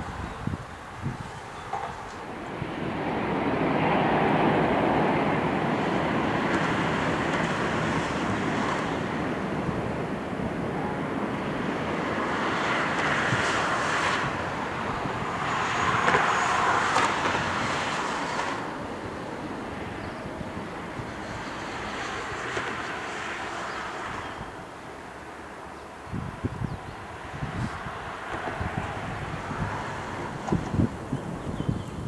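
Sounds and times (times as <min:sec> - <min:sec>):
wind buffeting microphone: 0:00.0 - 0:24.7, 0:25.9 - 0:32.0
airliner jet engines: 0:00.0 - 0:32.0.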